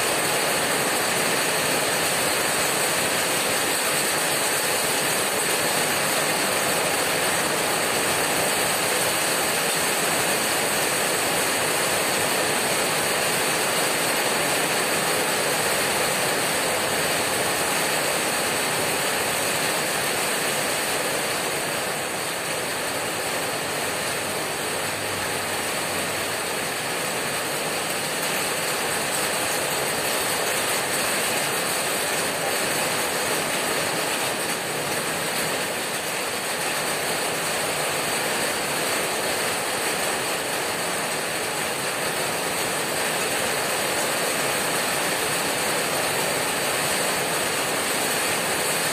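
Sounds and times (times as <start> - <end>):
heavy rain on a tin roof: 0.0 - 48.9.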